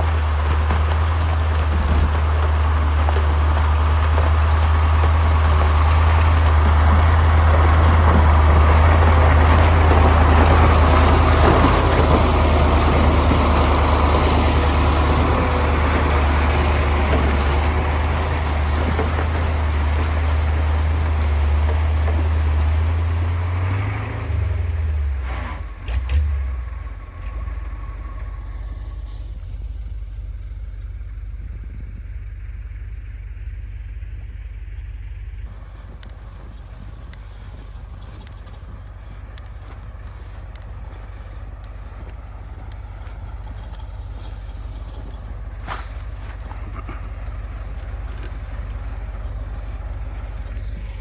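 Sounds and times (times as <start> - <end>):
faint low running sound: 0.0 - 51.0
truck diesel engine running: 0.0 - 51.0.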